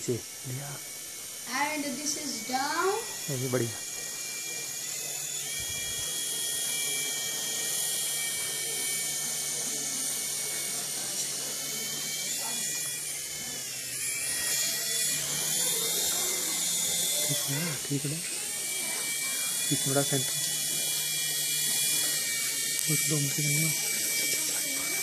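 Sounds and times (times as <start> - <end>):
toy helicopter motors whirring: 0.0 - 25.0.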